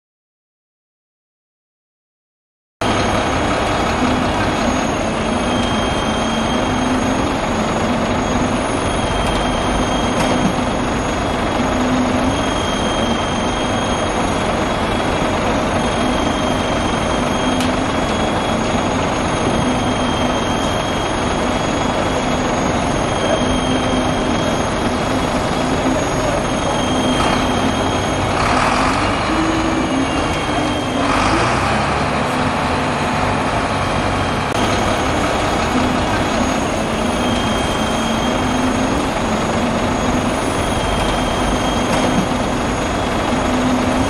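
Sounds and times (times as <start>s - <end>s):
concrete mixer and pump running: 2.9s - 44.0s.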